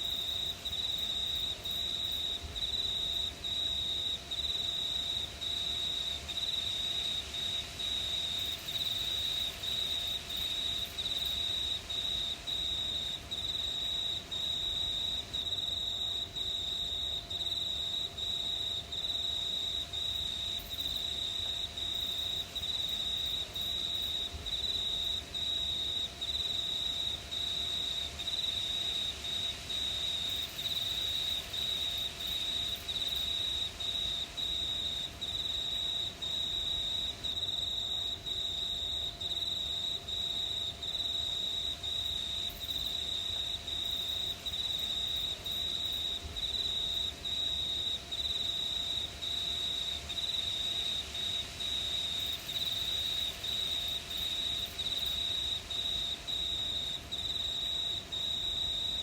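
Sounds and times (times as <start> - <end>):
cricket trilling: 0.0 - 59.0
crickets chorus: 0.0 - 59.0
faint high hiss: 0.0 - 59.0.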